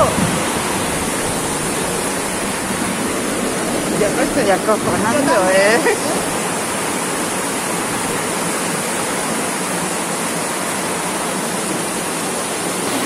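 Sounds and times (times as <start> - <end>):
torrential rain: 0.0 - 13.0.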